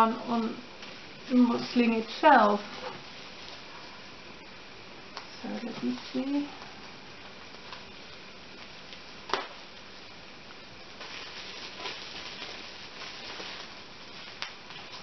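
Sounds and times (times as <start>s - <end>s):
plastic wrapping crinkling: 0.8s - 4.0s, 5.2s - 10.0s, 10.9s - 15.0s.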